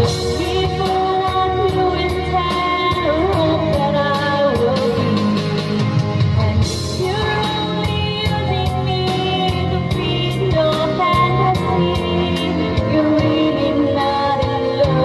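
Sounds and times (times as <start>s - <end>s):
karaoke backing track: 0.0s - 15.0s
woman singing into microphone: 0.0s - 15.0s.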